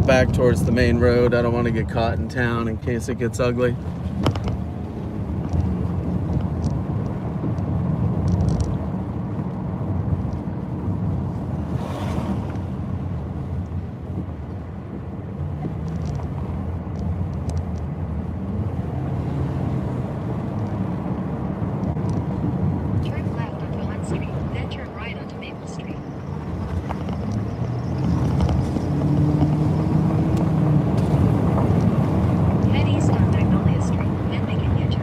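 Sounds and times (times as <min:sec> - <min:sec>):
road and engine noise in car: 0:00.0 - 0:35.0.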